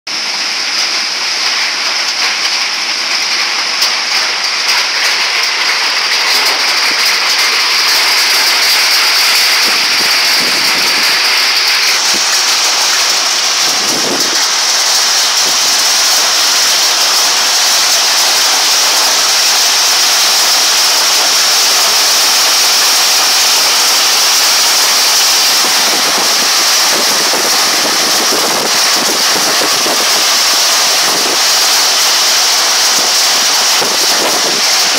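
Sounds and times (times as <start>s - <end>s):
hail and heavy rain clattering: 0.1s - 34.9s.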